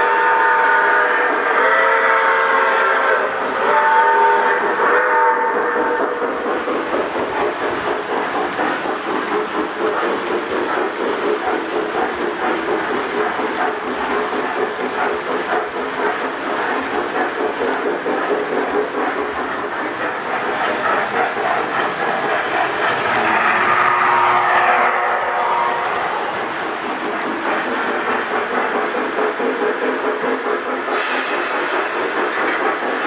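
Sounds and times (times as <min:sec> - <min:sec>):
model train wheels rumbling on rails: 0:00.0 - 0:33.0.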